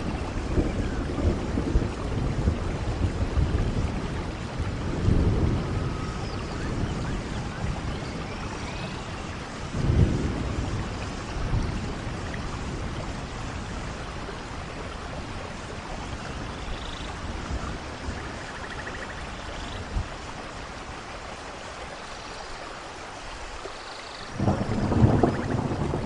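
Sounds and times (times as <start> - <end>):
low thunder rolls: 0.0 - 19.2, 24.3 - 26.0
steady rain: 0.0 - 26.0.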